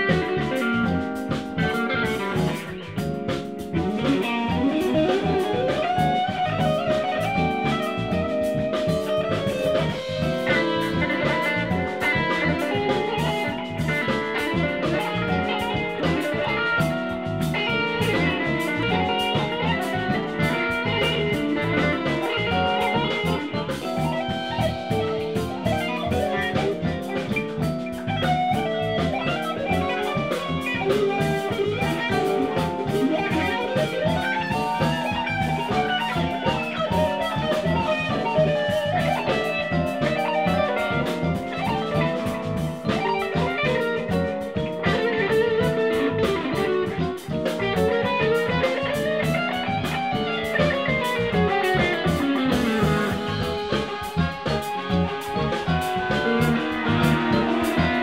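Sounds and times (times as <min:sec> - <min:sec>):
drum kit groove: 0:00.0 - 0:58.0
electric guitars: 0:00.0 - 0:58.0.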